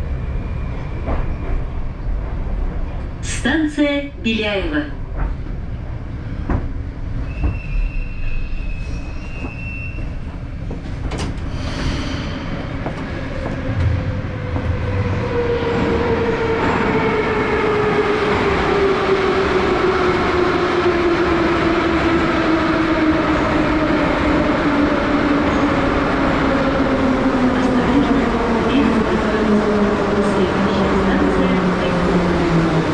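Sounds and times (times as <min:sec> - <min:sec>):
train wheels rumbling: 0:04.3 - 0:32.9.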